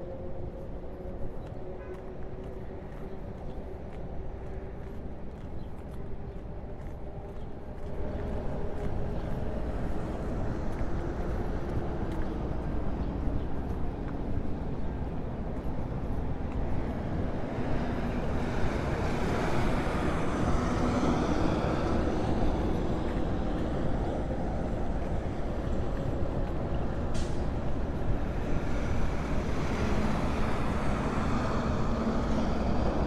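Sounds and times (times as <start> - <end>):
street traffic rumble: 0.0 - 33.0.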